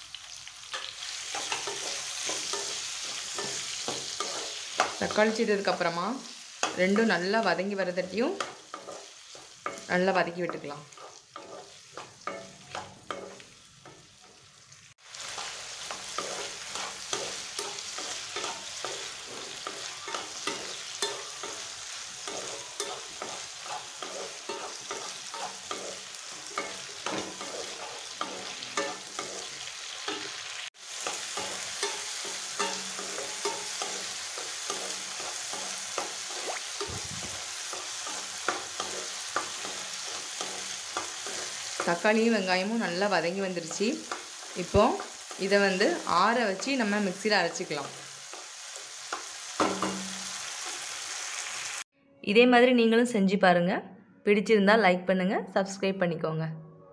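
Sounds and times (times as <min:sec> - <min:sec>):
vegetables sizzling in oil: 0:00.0 - 0:51.9
spoon scraping a pan: 0:00.7 - 0:07.3, 0:08.3 - 0:14.5, 0:15.2 - 0:51.0.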